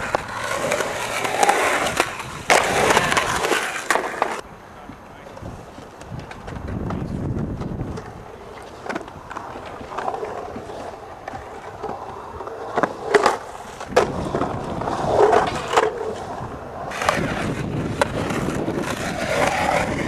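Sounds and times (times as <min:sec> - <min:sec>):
skateboard wheels rolling on concrete: 0:00.0 - 0:20.0
skateboards clacking on concrete: 0:00.0 - 0:20.0.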